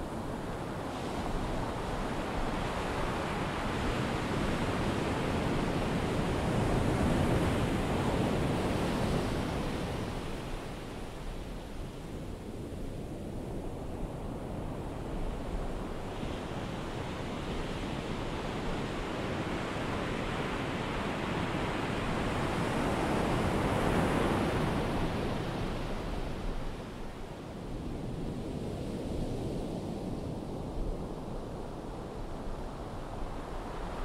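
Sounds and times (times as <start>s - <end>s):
ocean surf washing on beach: 0.0s - 34.0s.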